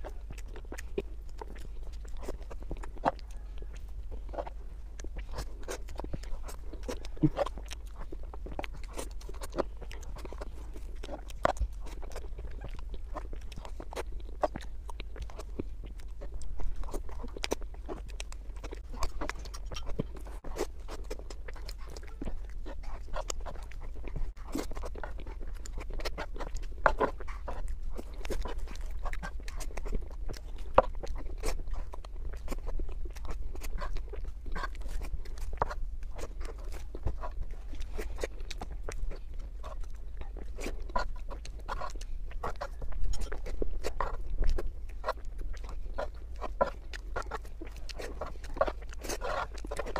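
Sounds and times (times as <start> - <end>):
sticky mouth clicks: 0.0 - 49.9
wet chewing and lip smacks: 0.0 - 49.9.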